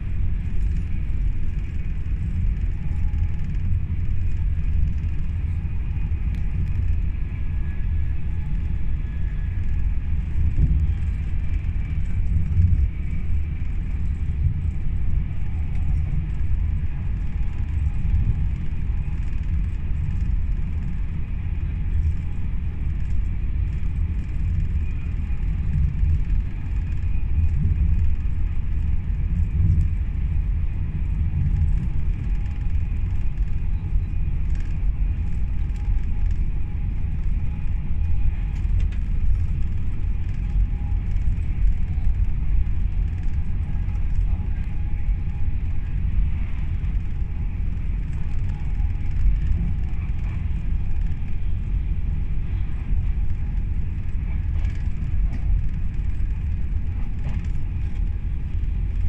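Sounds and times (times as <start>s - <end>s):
faint high hum: 0.0s - 59.0s
train wheels rumbling on rails: 0.0s - 59.0s.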